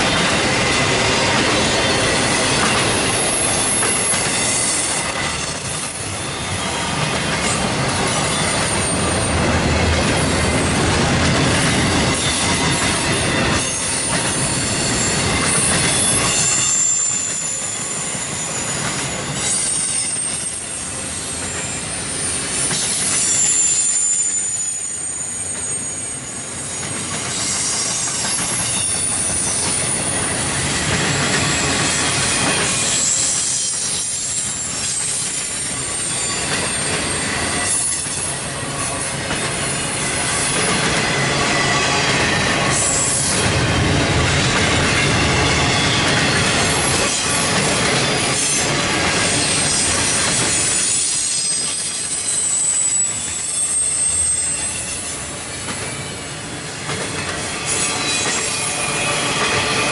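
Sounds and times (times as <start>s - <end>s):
high wheel squeals: 0.0s - 9.4s, 11.6s - 43.5s, 44.9s - 56.4s, 57.4s - 59.9s
freight train rumbling past: 0.0s - 59.9s.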